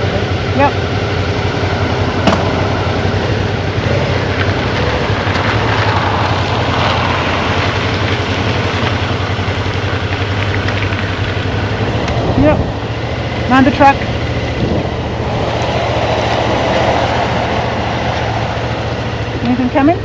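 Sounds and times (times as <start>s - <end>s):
motorcycle engine at low revs: 0.0s - 20.0s
tyres rolling on gravel: 1.8s - 20.0s.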